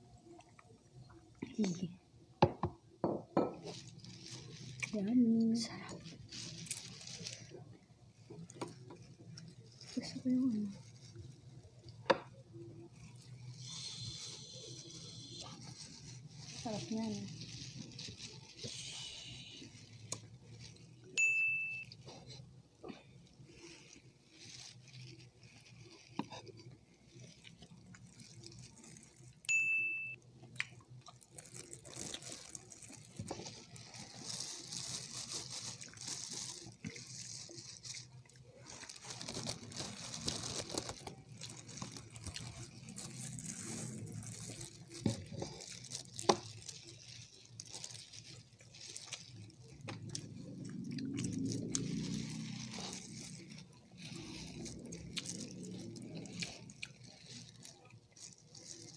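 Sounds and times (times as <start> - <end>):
plastic gloves rustling: 0.0 - 58.9
chewing: 3.6 - 21.2, 21.8 - 29.5, 30.4 - 58.9.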